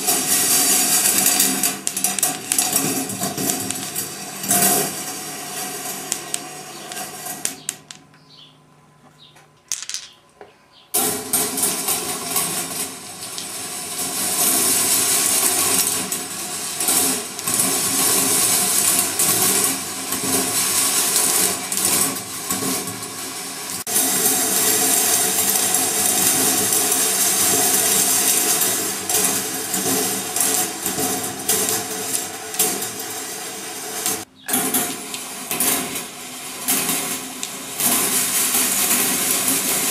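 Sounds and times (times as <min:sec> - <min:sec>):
marbles rattling on wire tracks: 0:00.0 - 0:08.2, 0:09.7 - 0:10.2, 0:11.0 - 0:39.9.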